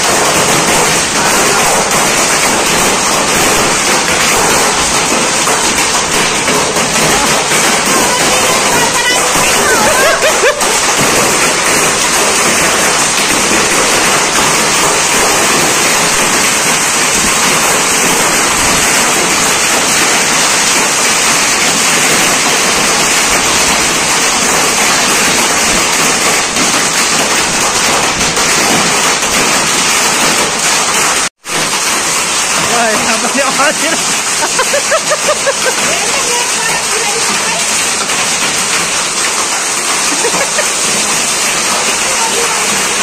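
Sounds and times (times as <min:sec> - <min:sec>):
loud steady rushing hiss: 0:00.0 - 0:43.0.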